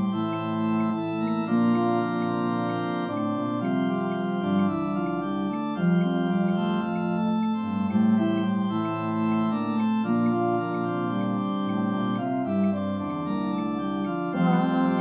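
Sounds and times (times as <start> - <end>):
organ playing a hymn: 0.0 - 15.0.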